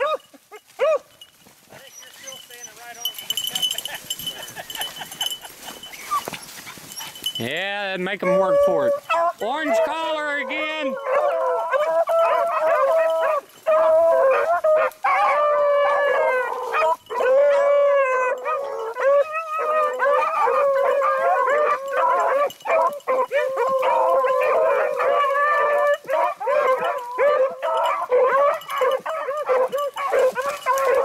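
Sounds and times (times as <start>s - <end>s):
dogs baying: 0.0s - 31.0s.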